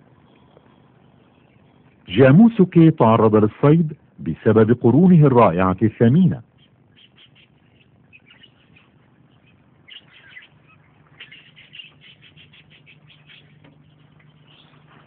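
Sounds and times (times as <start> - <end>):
faint birds chirping: 0.0 - 15.0
steady low hum: 0.0 - 15.0.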